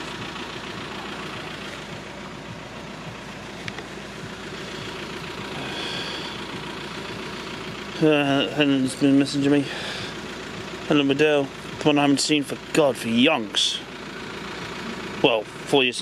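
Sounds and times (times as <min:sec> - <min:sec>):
car engines idling: 0:00.0 - 0:16.0.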